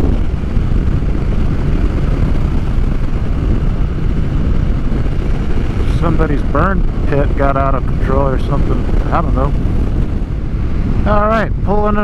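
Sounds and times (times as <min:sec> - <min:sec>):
motorcycle engine rumble: 0:00.0 - 0:12.0
wind noise: 0:00.0 - 0:12.0.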